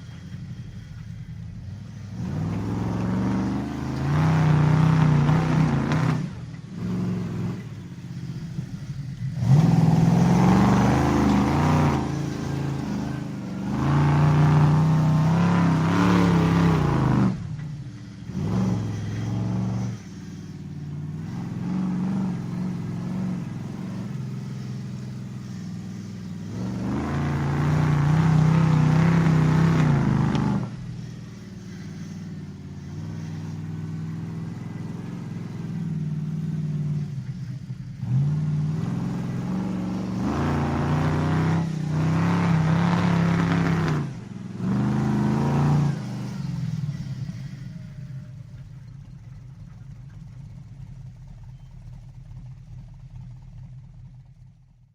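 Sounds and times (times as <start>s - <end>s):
monster truck engine revving: 0.0s - 54.2s.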